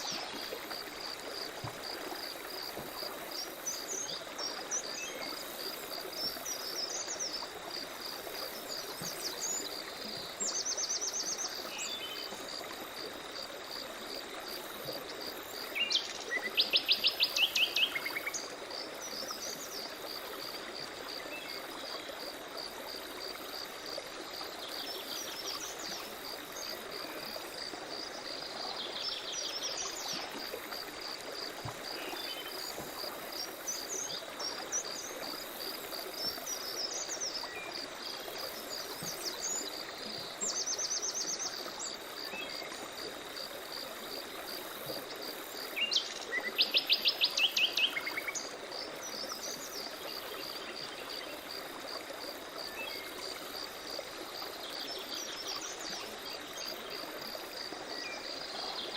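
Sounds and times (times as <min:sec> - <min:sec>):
rippling stream: 0:00.0 - 0:58.9.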